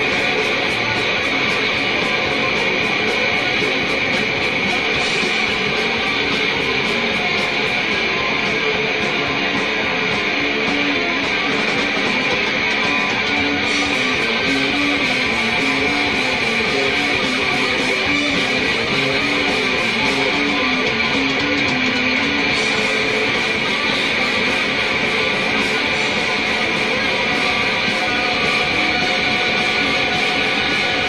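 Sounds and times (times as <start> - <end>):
distorted electric guitar riff: 0.0 - 31.0
wall of harsh noise: 0.0 - 31.0.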